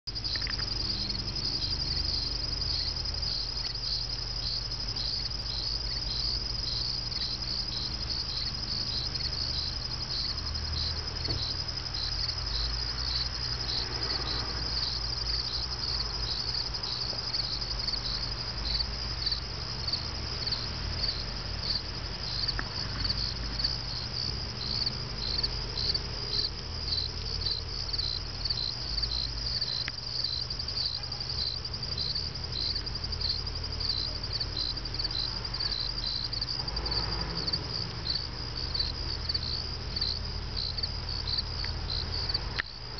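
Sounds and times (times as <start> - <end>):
insects chirping: 0.1 - 42.9.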